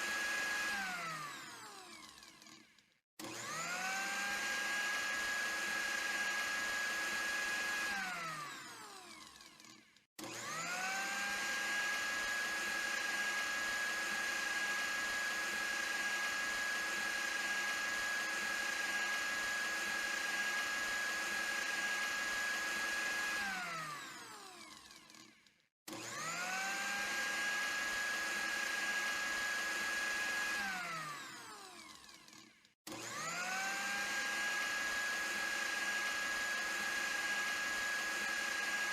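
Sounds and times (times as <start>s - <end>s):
electric blender motor whining: 0.0s - 38.9s.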